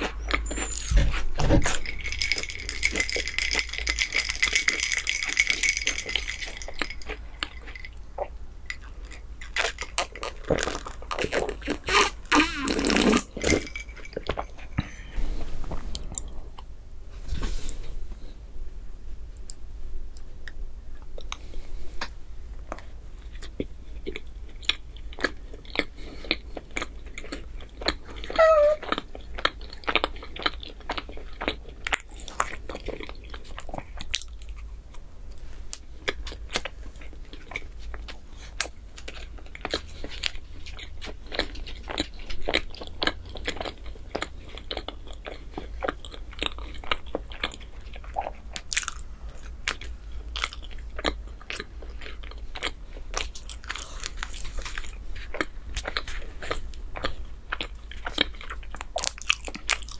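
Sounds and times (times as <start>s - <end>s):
person chewing with crackly clicks: 0.0s - 15.1s, 19.3s - 59.9s.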